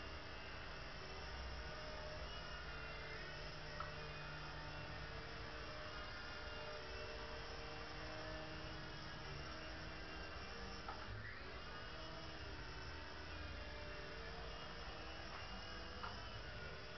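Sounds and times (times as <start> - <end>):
toy helicopter whirring hum: 0.0 - 16.9.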